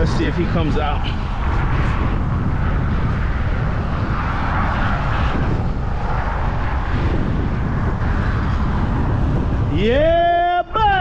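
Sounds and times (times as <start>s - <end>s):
passing road traffic: 0.0s - 9.8s
wind: 0.0s - 11.0s.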